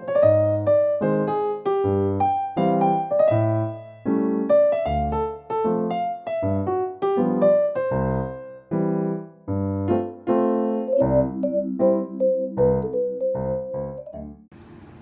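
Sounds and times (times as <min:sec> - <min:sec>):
keyboard melody over chords: 0:00.0 - 0:14.4.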